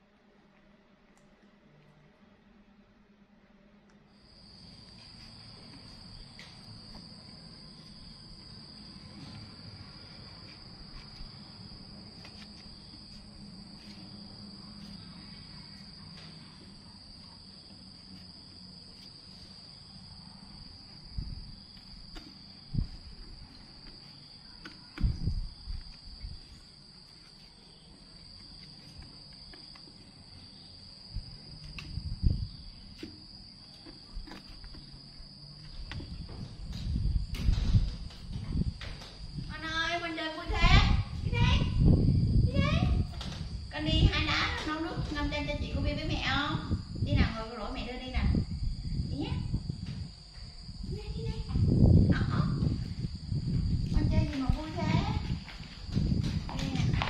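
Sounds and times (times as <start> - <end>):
insects chirring: 4.1 - 57.0.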